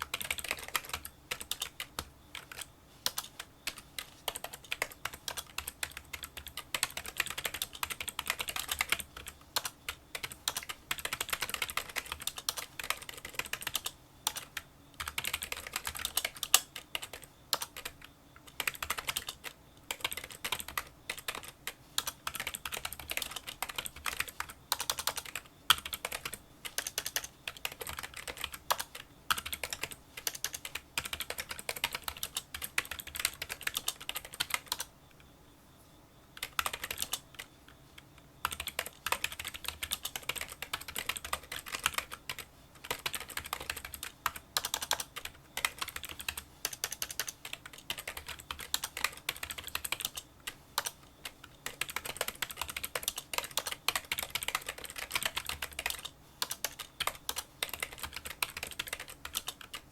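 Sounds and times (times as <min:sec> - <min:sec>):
fast typing on keyboard: 0:00.0 - 0:34.9, 0:36.4 - 0:37.5, 0:38.4 - 0:59.9.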